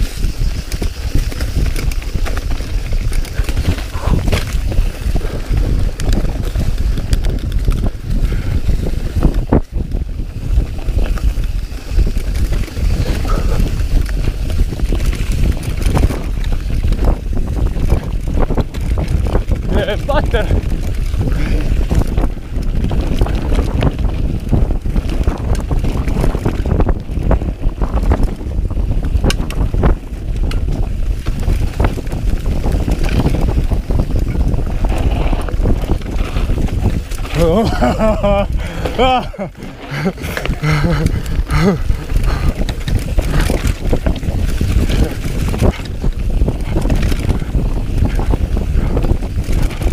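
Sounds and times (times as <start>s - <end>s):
bike rattling and knocking: 0.0s - 49.9s
bike tyres on dirt: 0.0s - 49.9s
wind buffeting microphone: 0.0s - 49.9s.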